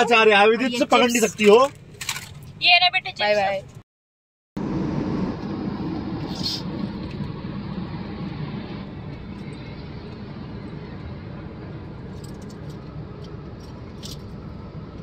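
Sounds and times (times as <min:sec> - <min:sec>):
car cabin road and engine rumble: 0:00.0 - 0:03.8, 0:04.6 - 0:15.0.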